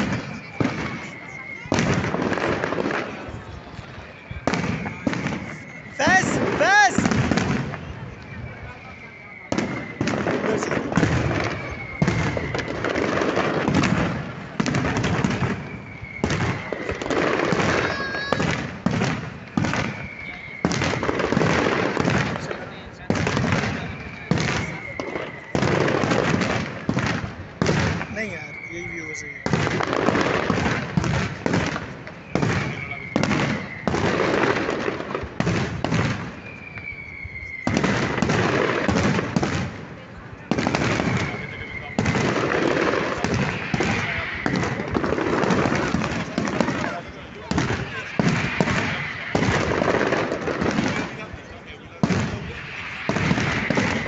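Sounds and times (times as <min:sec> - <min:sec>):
fireworks bangs: 0:00.0 - 0:54.0
fireworks crackling: 0:00.0 - 0:54.0
whistling firework tone: 0:00.0 - 0:54.0.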